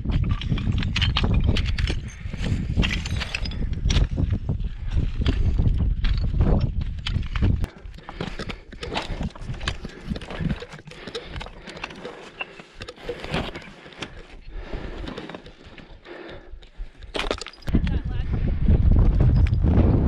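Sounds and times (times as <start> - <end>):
trekking poles clicking on stones: 0.0 - 18.0.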